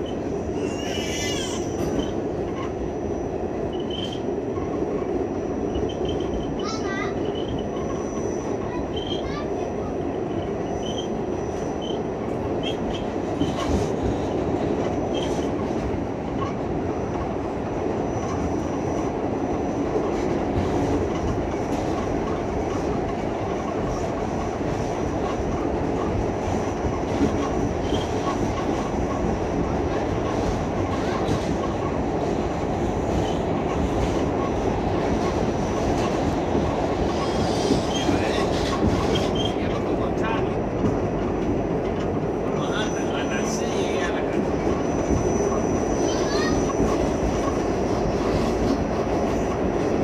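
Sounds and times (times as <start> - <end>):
rail joint clicks: 0.0 - 50.0
steel wheels rumbling on rails: 0.0 - 50.0.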